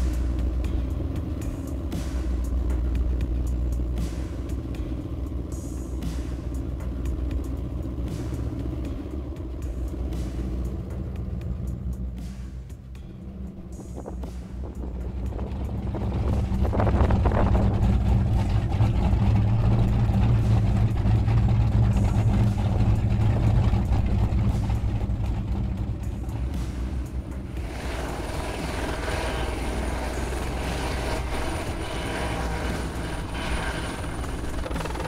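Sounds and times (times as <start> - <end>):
boat engines idling: 0.0 - 35.0
helicopter turbine and rotor: 0.0 - 35.0.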